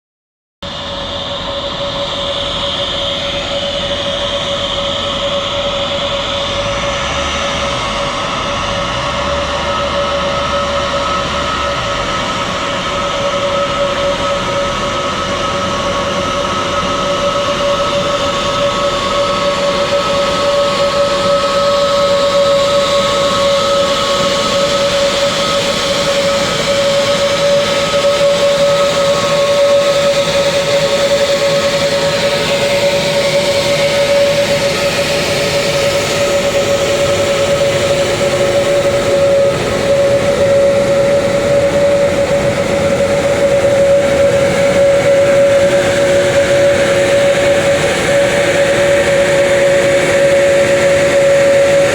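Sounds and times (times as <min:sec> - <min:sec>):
jet engines whining: 0:00.6 - 0:51.9.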